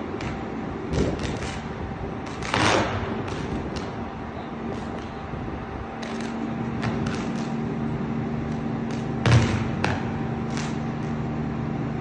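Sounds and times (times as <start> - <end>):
power lines arcing: 0.0 - 12.0
steady electrical hum: 0.0 - 12.0.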